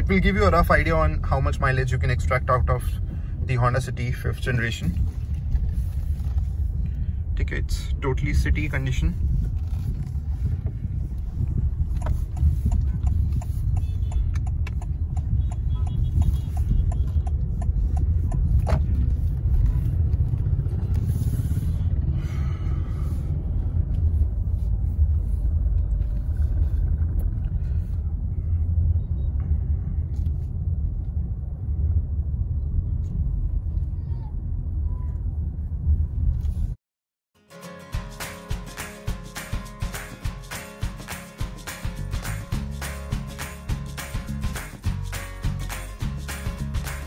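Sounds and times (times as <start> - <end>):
car engine and road rumble: 0.0 - 36.8, 37.6 - 47.0.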